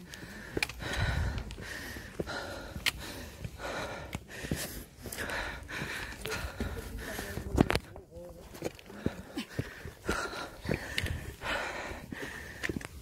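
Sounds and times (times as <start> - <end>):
person breathing hard: 0.0 - 7.6, 8.8 - 13.0.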